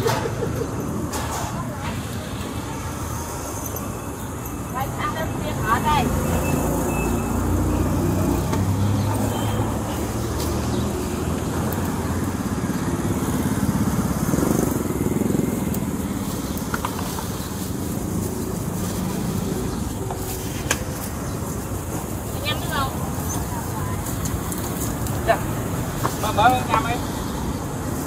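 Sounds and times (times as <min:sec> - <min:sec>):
motorbike engines passing: 0:00.0 - 0:28.0.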